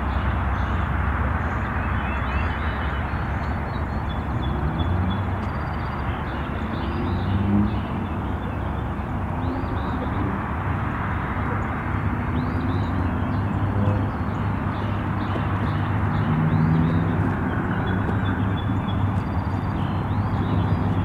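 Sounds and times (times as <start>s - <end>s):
faint songbird chirps: 0.0s - 10.4s, 11.5s - 21.0s
outdoor background rumble: 0.0s - 21.0s.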